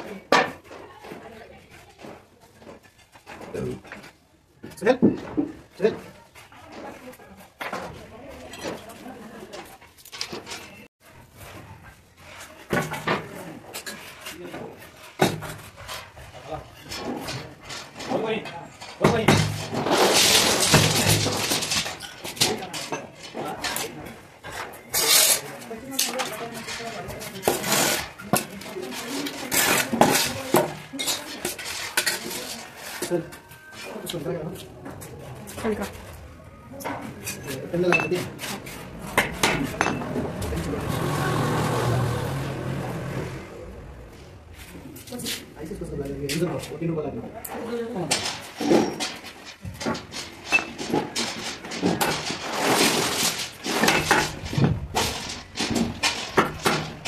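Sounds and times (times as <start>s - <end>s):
wood scraping and rubbing: 9.9s - 46.8s, 47.5s - 57.0s.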